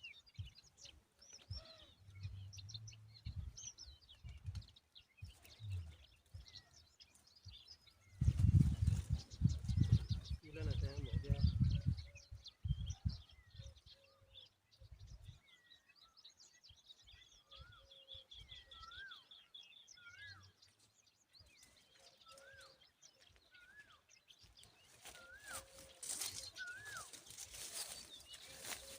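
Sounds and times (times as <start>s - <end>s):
faint birdsong whistled notes: 0.0s - 28.9s.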